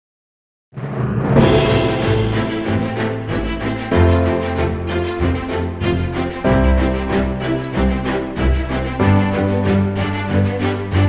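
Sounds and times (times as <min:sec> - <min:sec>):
background music with steady beat: 0:01.4 - 0:11.0.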